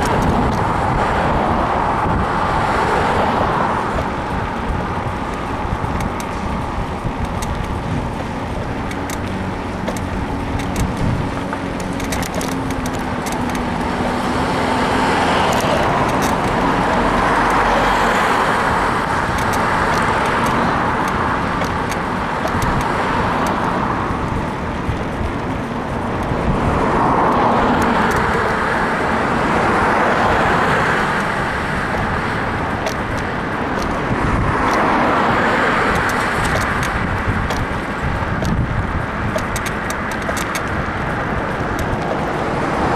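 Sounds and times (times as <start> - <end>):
bicycle frame creaks and clicks: 0.0 - 42.9
cars passing: 0.0 - 42.9
road traffic: 0.0 - 42.9.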